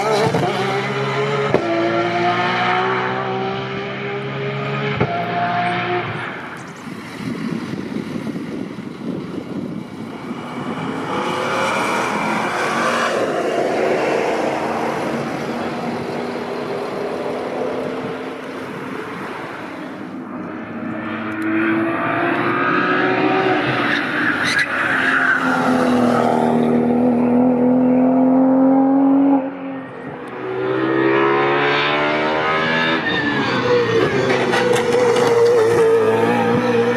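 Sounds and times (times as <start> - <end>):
race cars passing at speed: 0.0 - 36.9.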